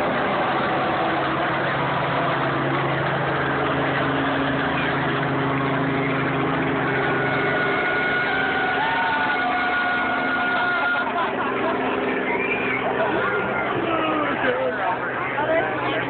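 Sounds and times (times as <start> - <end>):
helicopter engine running: 0.0 - 16.0.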